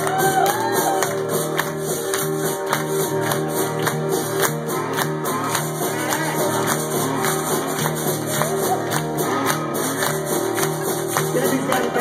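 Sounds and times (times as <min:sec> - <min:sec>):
electric bass: 0:00.0 - 0:12.0
percussion beat: 0:00.0 - 0:12.0.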